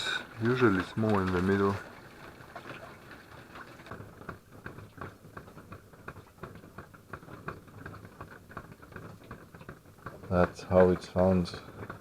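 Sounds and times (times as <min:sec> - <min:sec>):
water drops pattering on a tent: 0:00.0 - 0:12.0.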